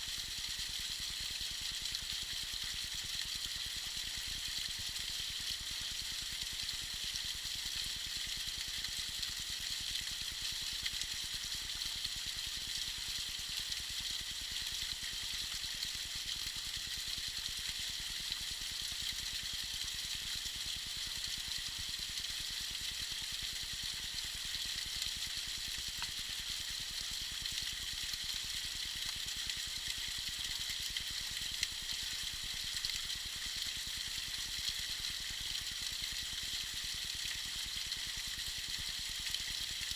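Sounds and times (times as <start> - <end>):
small waterfall splashing: 0.3 - 39.9.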